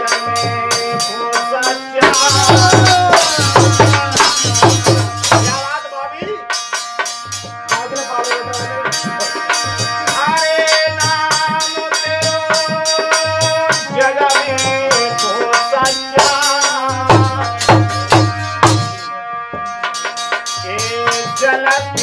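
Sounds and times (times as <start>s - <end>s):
man singing: 0.0s - 6.8s, 7.6s - 19.7s, 20.5s - 22.0s
hand drum beating: 0.0s - 22.0s
harmonium chords: 0.0s - 22.0s.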